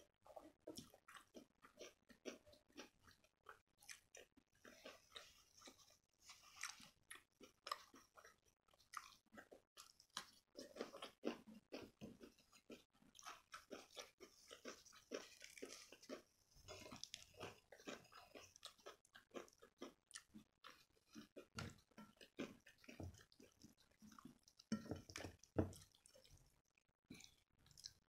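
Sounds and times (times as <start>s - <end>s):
wet chewing and mouth smacks: 0.3s - 28.0s.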